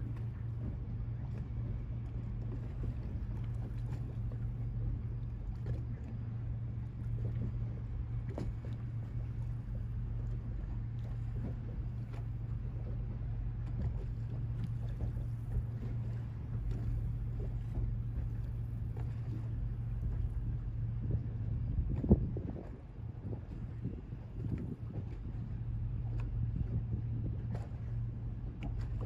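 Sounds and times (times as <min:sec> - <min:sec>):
ship engines droning: 0:00.0 - 0:29.0.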